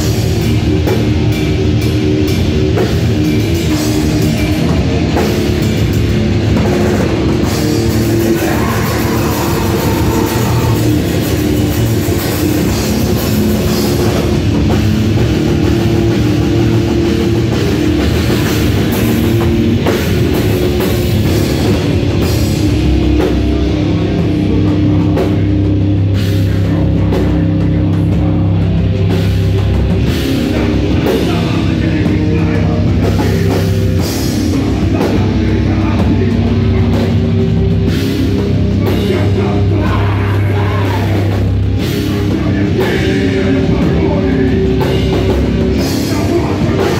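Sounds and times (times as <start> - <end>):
heavy metal band playing live: 0.0 - 46.9.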